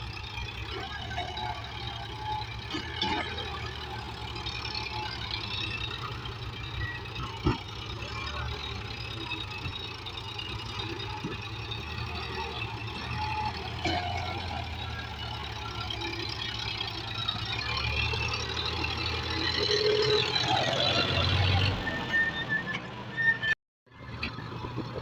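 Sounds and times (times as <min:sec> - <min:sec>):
diesel engine idling: 0:00.0 - 0:23.2.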